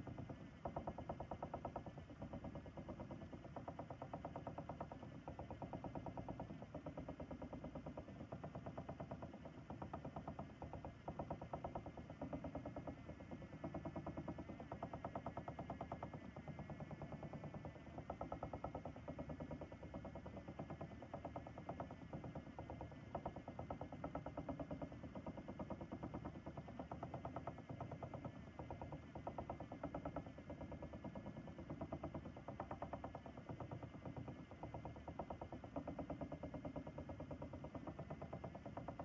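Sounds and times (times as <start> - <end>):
electric spinning wheel ticking rattle: 0.0 - 39.0
faint motor whine: 0.0 - 39.0.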